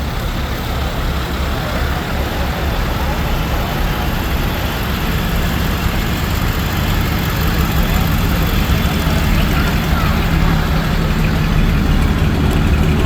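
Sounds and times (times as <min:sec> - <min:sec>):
fire truck engine rumbling: 0:00.0 - 0:13.0
people's voices: 0:00.0 - 0:13.0.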